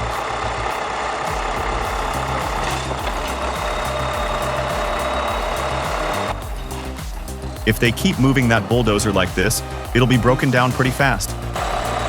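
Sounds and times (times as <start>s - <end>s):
bulldozer diesel engine running: 0.0s - 12.0s
music with steady beat: 0.0s - 12.0s.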